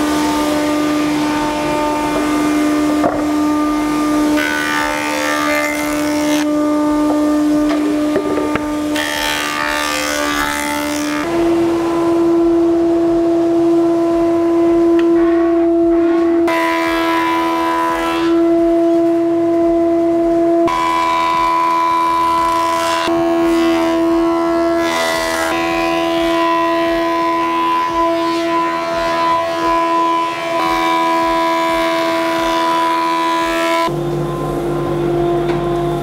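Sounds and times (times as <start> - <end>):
planing machines droning: 0.0 - 36.0.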